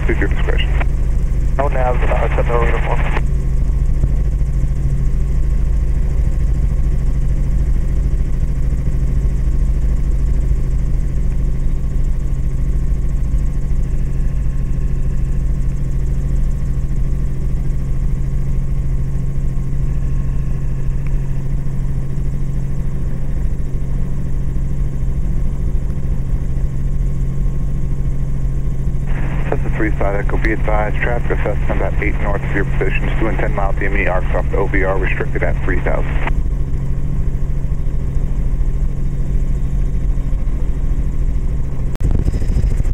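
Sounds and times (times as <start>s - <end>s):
helicopter droning in flight: 0.0s - 42.9s.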